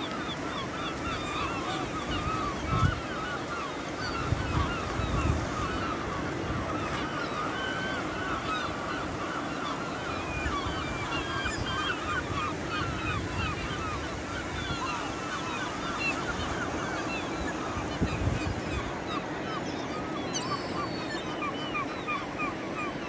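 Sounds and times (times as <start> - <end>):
gulls calling: 0.0 - 23.0
surf: 0.0 - 23.0
wind: 0.0 - 23.0.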